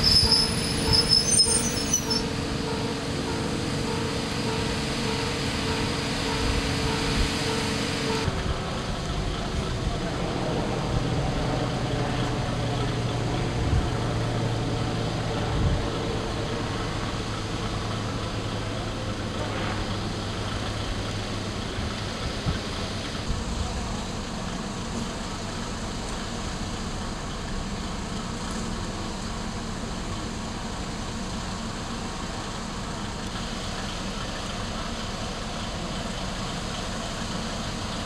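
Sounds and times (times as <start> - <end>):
diesel engine humming: 0.0 - 38.0.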